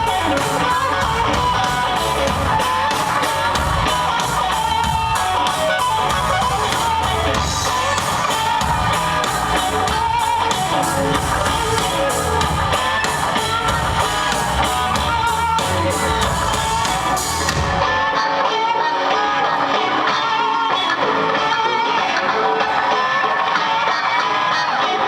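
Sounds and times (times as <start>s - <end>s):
bass guitar: 0.0s - 25.0s
drums: 0.0s - 25.0s
electric guitar: 0.0s - 25.0s.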